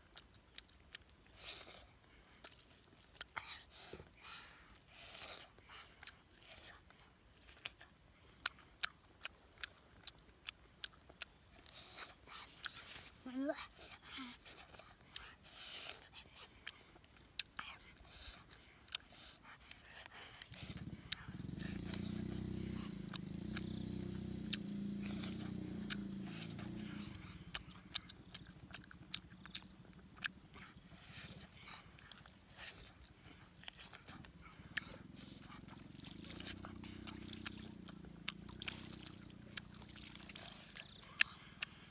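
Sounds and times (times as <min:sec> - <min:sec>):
person chewing food: 0:00.0 - 0:41.9
sharp mouth clicks: 0:04.9 - 0:13.2, 0:13.9 - 0:41.9.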